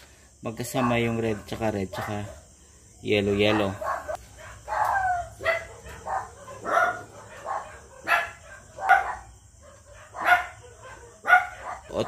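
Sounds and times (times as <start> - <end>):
dog barking: 0.7 - 2.5, 3.4 - 12.0.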